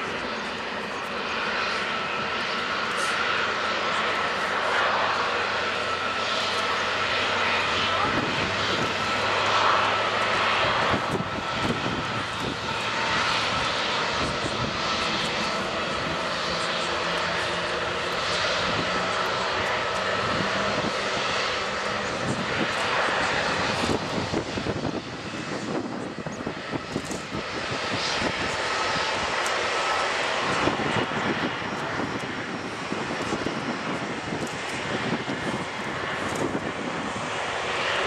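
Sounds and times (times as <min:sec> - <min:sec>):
continuous rushing noise: 0:00.0 - 0:38.0
jet engine whine: 0:00.0 - 0:38.0.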